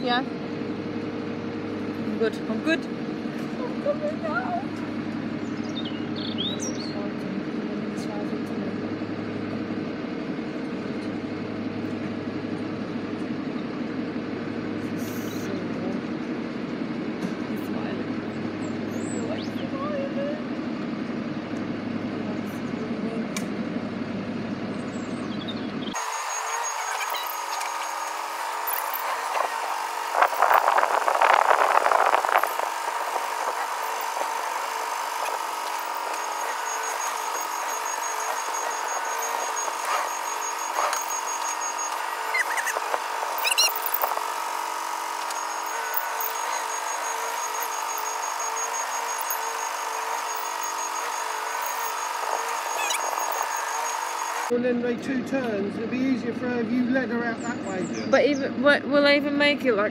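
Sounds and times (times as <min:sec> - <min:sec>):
lorry and tractor engines running: 0:00.0 - 0:59.9.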